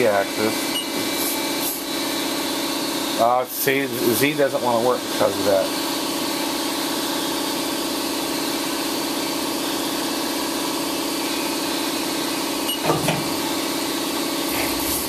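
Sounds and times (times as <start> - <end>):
milling machine humming idle: 0.0 - 15.0.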